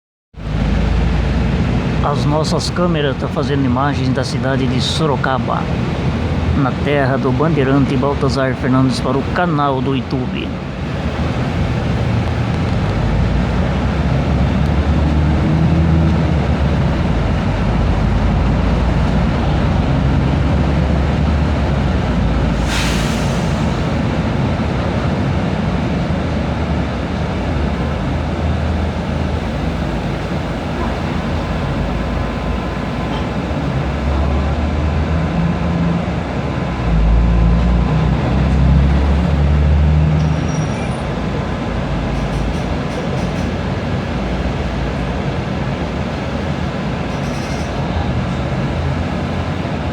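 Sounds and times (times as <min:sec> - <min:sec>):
street noise: 0:00.3 - 0:49.9
large vehicle engine rumble passing: 0:00.4 - 0:49.9.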